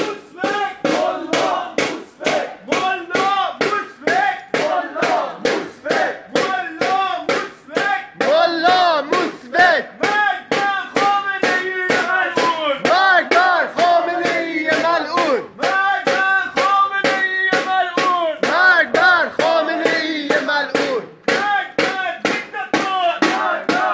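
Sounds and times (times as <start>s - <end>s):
crowd chanting in unison: 0.0s - 23.9s.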